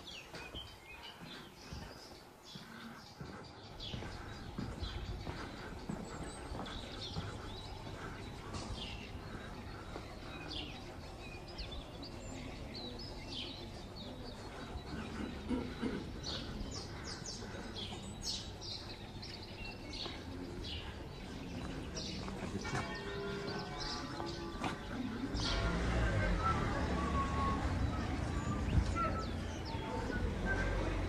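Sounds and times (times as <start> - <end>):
low outdoor hum: 0.0 - 31.0
small birds chirping: 0.0 - 31.0.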